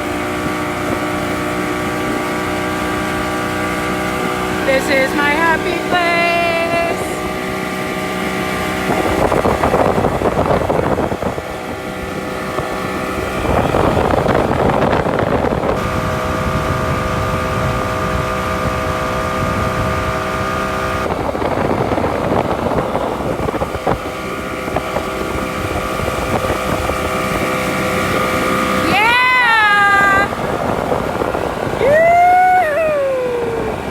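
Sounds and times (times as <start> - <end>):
motorboat engine running: 0.0 - 33.9
wind buffeting microphone: 0.0 - 33.9.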